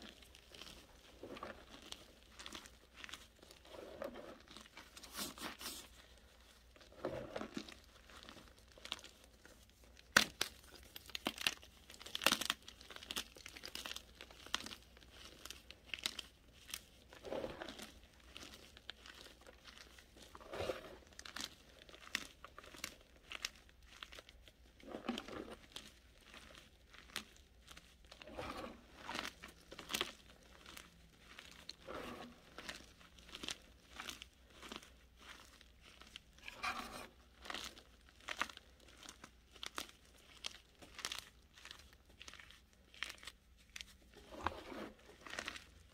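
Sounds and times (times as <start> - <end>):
hands crumbling dry powder: 0.0 - 45.9.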